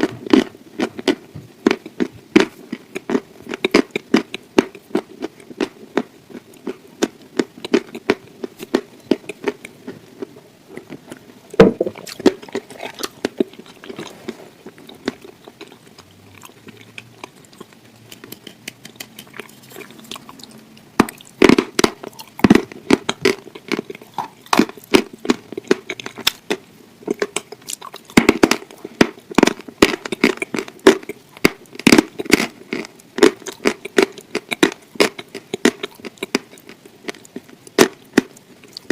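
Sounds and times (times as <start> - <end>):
chewing chicken: 0.0 - 38.9.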